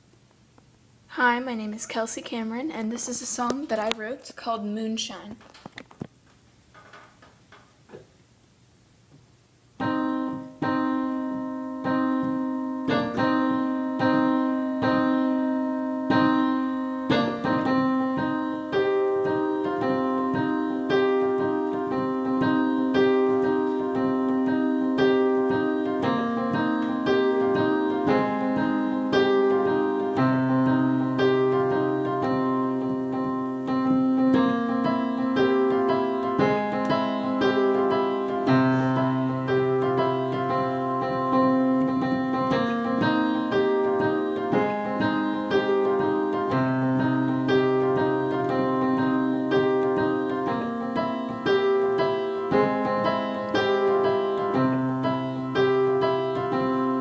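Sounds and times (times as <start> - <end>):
digital piano playing chords: 9.7 - 57.0.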